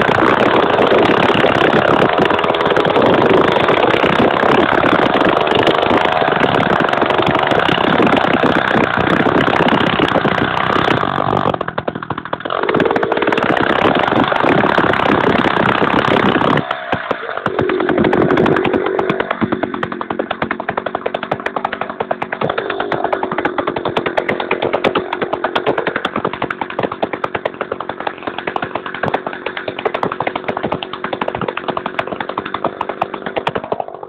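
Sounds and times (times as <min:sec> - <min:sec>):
chainsaw cutting: 0:00.0 - 0:34.0.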